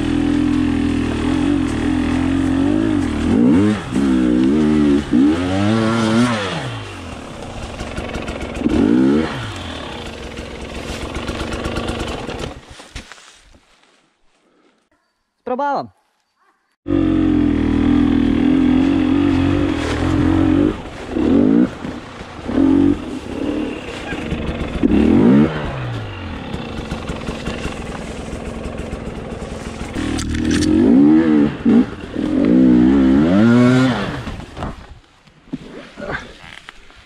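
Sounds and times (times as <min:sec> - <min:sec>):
dirt bike engine revving: 0:00.0 - 0:12.6, 0:16.9 - 0:34.4.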